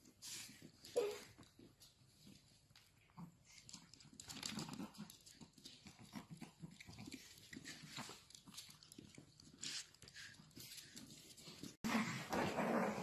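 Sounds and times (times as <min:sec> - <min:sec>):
dogs play-fighting noises: 0:00.0 - 0:13.0.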